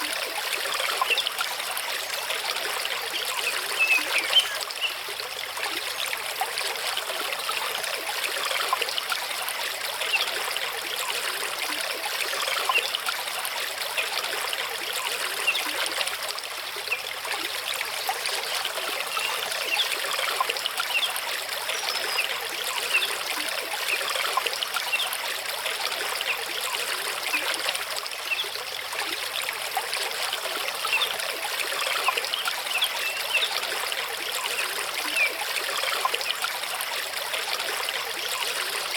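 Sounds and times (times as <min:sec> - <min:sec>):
water trickling splashes: 0:00.0 - 0:38.9.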